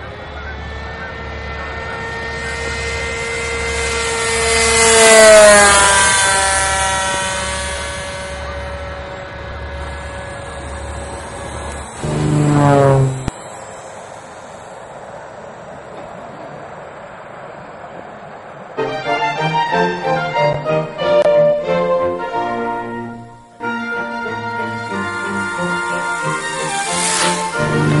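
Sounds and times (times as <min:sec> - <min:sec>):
model airplane engine passing: 0:00.0 - 0:16.6, 0:18.8 - 0:28.0.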